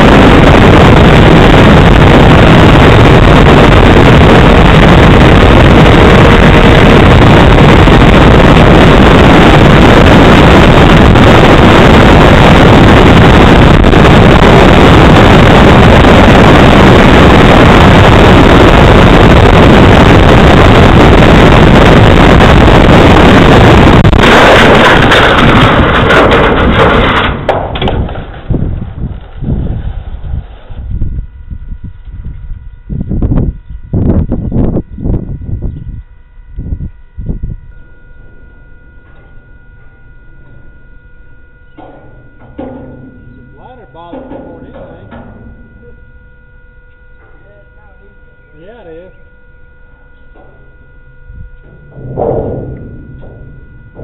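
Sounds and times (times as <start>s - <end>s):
rushing wind: 0.0s - 44.0s, 49.3s - 54.0s.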